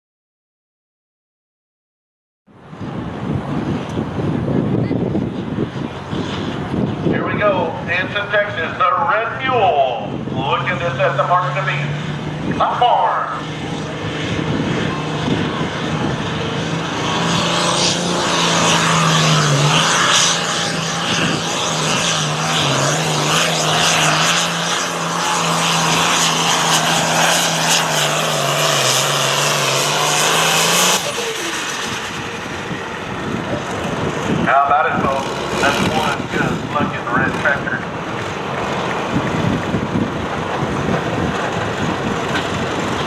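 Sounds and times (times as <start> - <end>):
tractor diesel engine at full throttle: 3.0 - 43.0.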